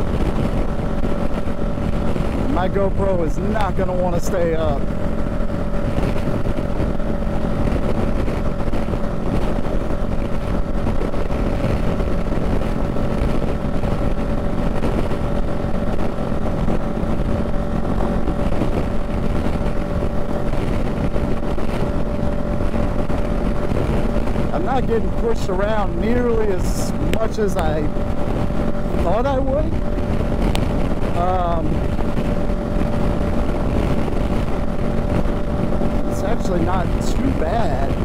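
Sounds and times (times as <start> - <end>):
motorcycle engine droning: 0.0 - 38.0
wind and road noise: 0.0 - 38.0.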